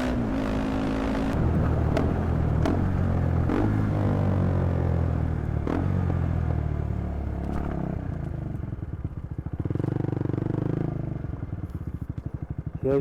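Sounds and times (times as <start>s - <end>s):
motorcycle engine running: 0.3s - 13.0s.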